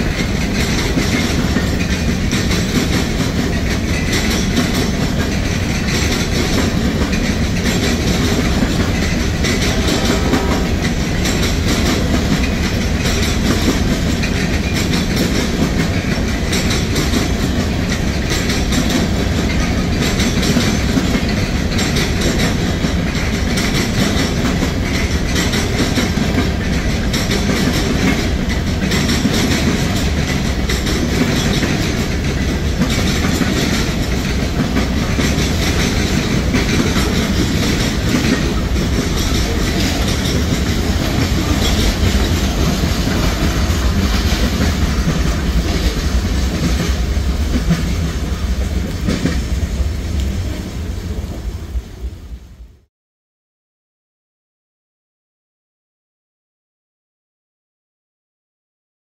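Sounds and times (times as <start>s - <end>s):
freight train wheels clacking: 0.0s - 51.7s.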